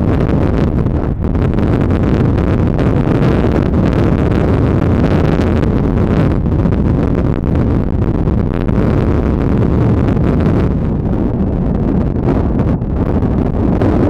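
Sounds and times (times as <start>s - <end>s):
jet engines roaring: 0.0s - 14.0s
wind noise on microphone: 0.0s - 14.0s.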